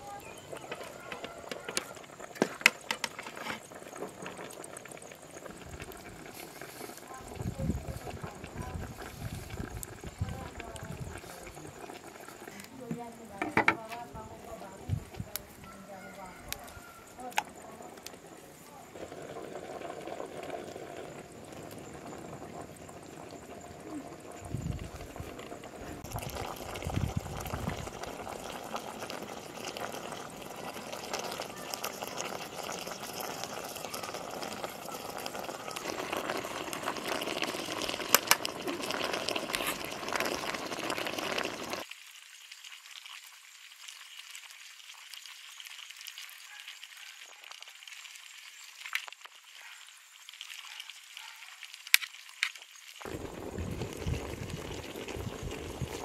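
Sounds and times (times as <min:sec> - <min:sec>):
pot simmering with bubbling hiss: 0:00.0 - 0:56.0.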